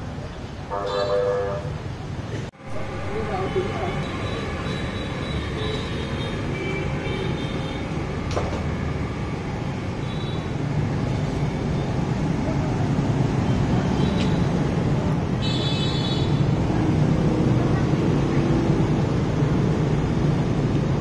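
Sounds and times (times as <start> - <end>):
vehicles rumbling by: 0.0 - 21.0.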